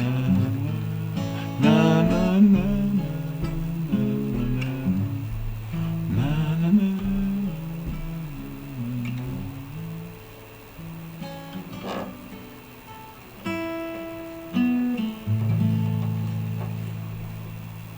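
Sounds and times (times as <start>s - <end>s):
acoustic guitar playing: 0.0s - 17.9s.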